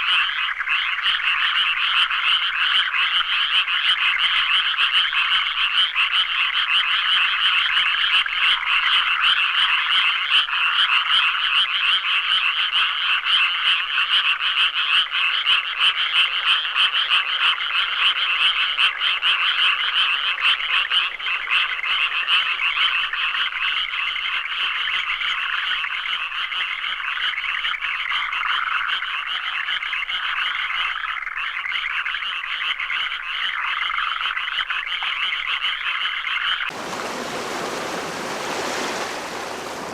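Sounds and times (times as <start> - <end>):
frogs croaking in chorus: 0.0 - 39.9.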